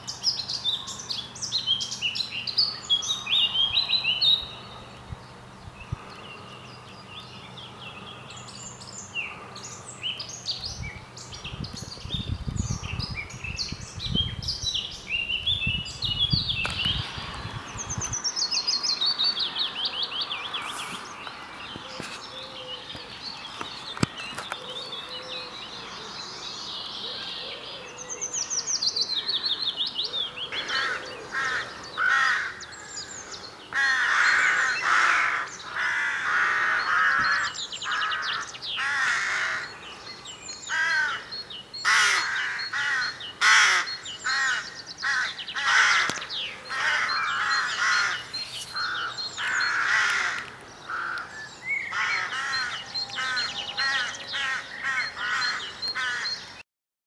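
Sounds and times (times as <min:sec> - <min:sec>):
birds singing and calling: 0:00.0 - 0:56.6.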